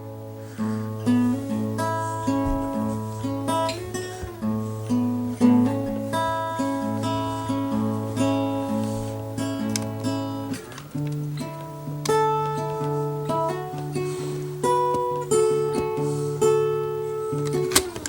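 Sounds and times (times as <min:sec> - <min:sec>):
acoustic guitar plucked notes: 0:00.0 - 0:18.0.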